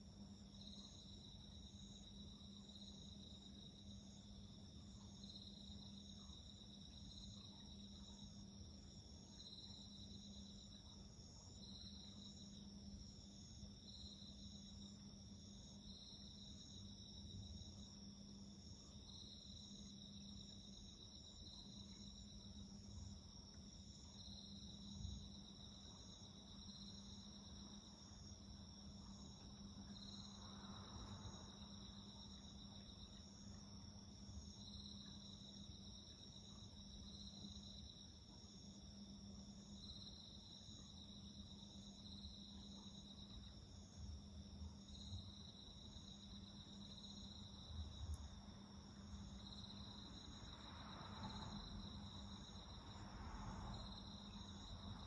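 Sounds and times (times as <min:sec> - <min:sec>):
insects chirping: 0:00.1 - 0:55.0.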